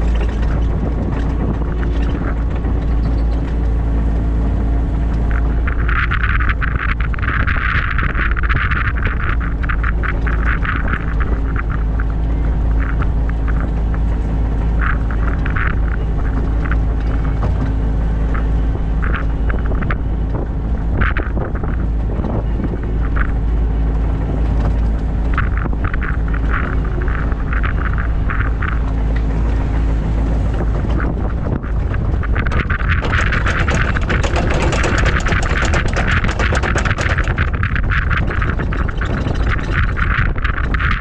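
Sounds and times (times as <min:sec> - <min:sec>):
dense rushing noise: 0:00.0 - 0:41.0
excavator diesel engine running: 0:00.0 - 0:41.0.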